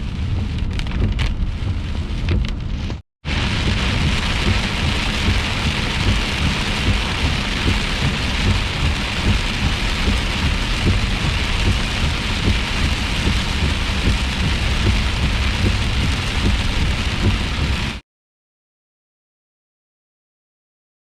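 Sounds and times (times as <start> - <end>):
torrential rain pouring: 0.0 - 18.0.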